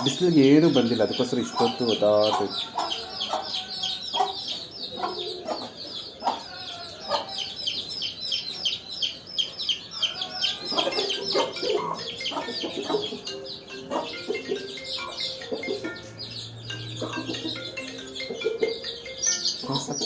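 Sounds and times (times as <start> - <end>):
chickens clucking: 0.0 - 20.0
chicks peeping: 0.0 - 20.0.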